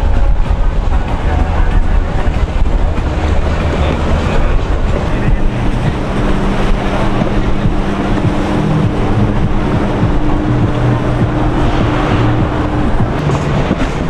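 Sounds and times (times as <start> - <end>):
motorboat engines droning: 0.0 - 14.0
water noise: 0.0 - 14.0
wind noise on microphone: 0.0 - 14.0.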